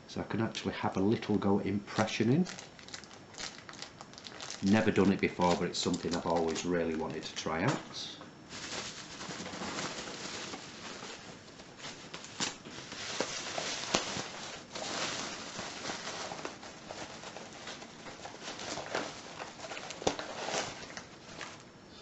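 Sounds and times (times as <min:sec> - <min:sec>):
plastic wrapping rustling: 0:00.6 - 0:07.8, 0:08.5 - 0:21.7.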